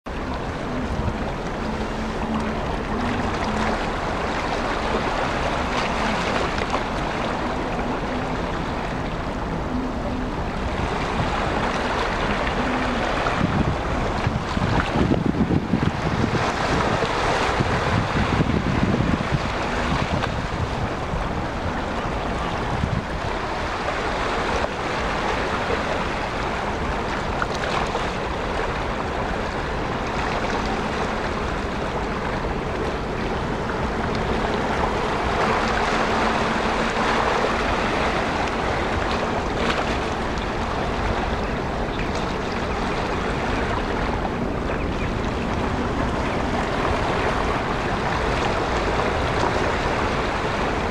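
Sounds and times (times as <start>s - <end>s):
small waves washing: 0.1s - 50.9s
wind on microphone: 0.1s - 50.9s.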